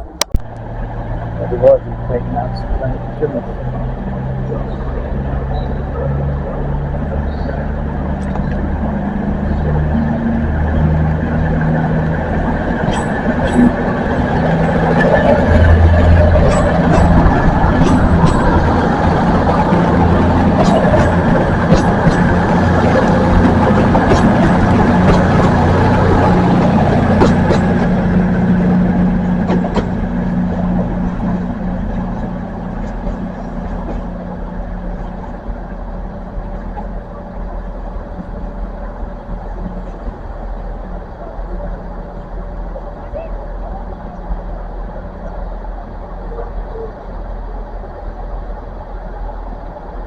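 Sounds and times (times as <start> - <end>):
diesel train engine droning: 0.0 - 50.0.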